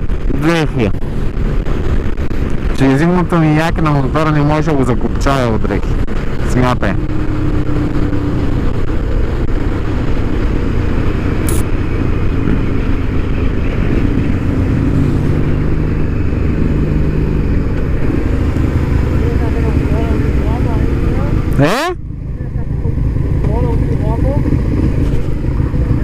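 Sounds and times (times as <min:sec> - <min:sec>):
motorcycle engine drone: 0:00.0 - 0:26.0
wind and road noise: 0:00.0 - 0:26.0.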